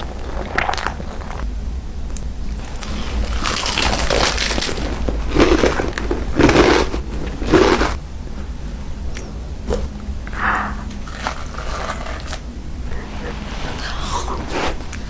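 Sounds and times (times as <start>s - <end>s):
crunchy food being chewed: 0.0s - 8.0s, 9.0s - 15.0s.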